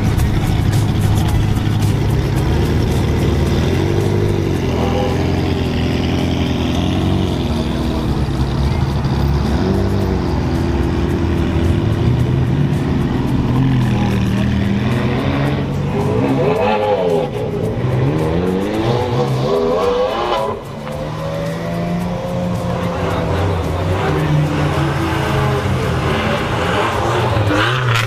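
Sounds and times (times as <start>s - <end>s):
sports car engines revving: 0.0s - 28.0s.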